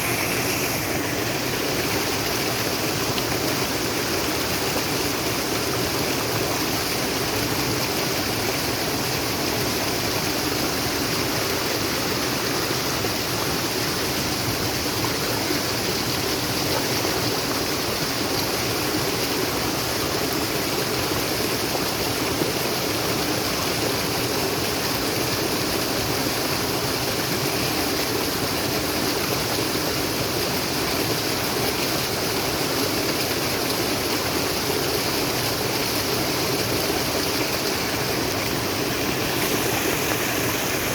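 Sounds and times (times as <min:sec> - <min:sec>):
water rushing steadily: 0:00.0 - 0:40.9.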